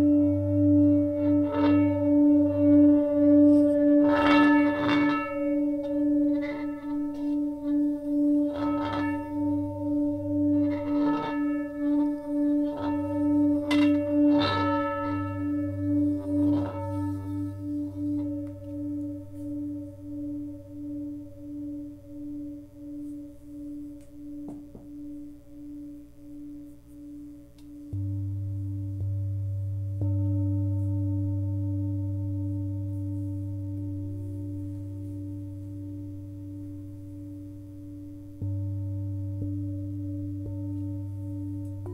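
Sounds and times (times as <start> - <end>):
singing bowls ringing: 0.0 - 41.9.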